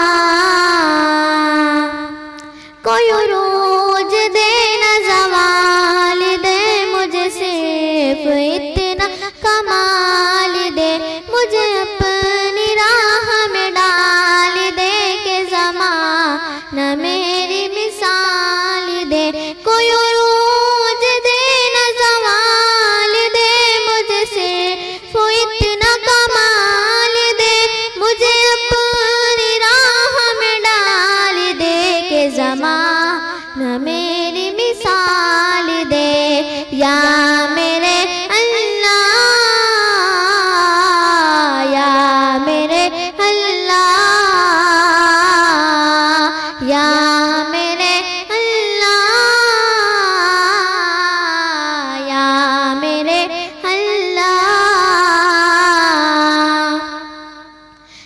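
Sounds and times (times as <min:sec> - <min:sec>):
girl singing into a microphone: 0:00.0 - 0:58.0.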